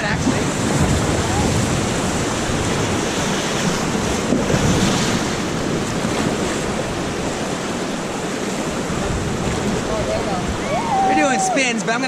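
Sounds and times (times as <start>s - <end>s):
wind noise on microphone: 0.0s - 11.5s
river water rushing: 0.0s - 12.0s.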